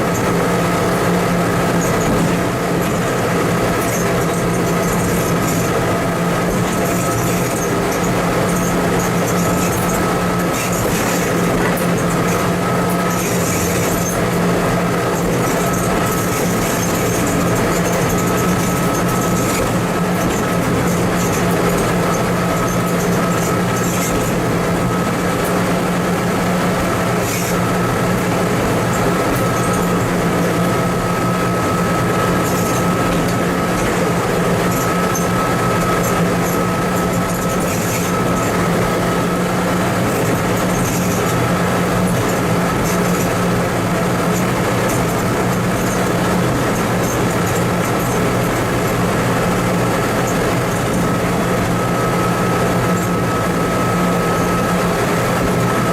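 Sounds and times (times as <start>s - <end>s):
engine low drone: 0.0s - 55.9s
high whine: 0.0s - 55.9s.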